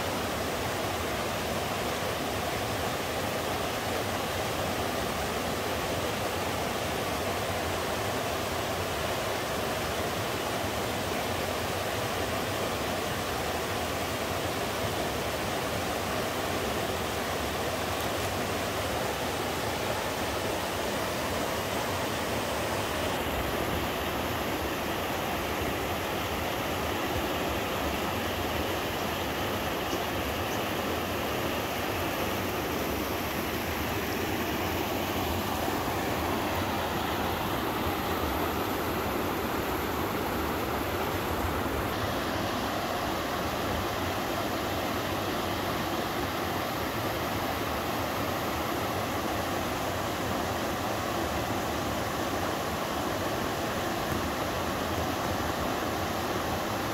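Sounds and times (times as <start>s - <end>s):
waterfall rushing over boulders: 0.0s - 56.9s.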